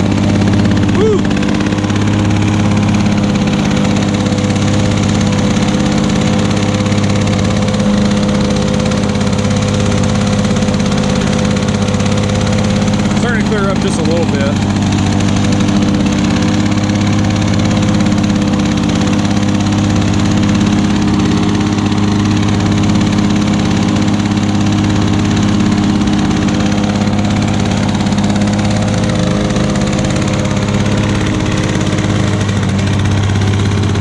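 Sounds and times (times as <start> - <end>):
lawnmower engine running: 0.0 - 34.0.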